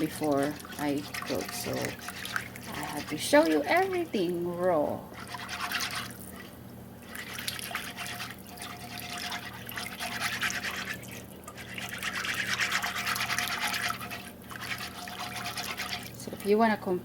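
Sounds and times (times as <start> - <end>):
stirring food in a cooking pot: 0.0 - 16.7.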